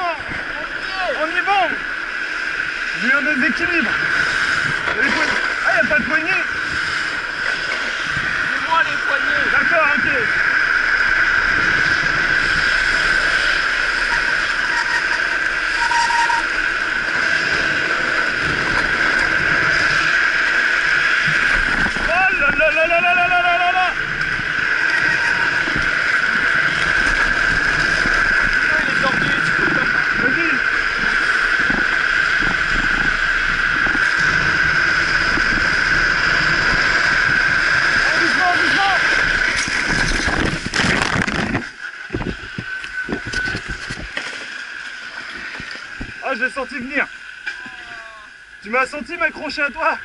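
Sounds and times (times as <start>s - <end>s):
plastic wheels sliding on asphalt: 0.0s - 49.9s
high whine: 0.0s - 50.0s
wind on microphone: 1.8s - 44.2s, 45.3s - 46.2s.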